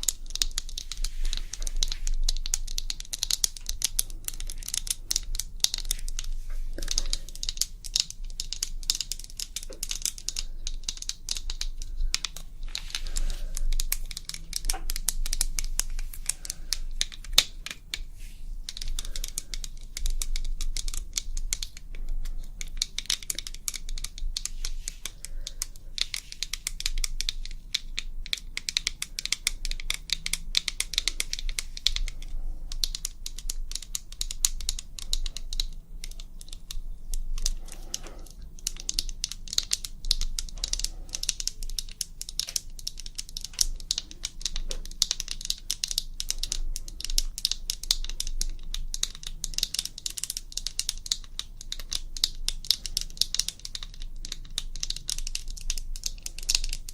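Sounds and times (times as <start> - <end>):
faint low hum: 0.0 - 56.9.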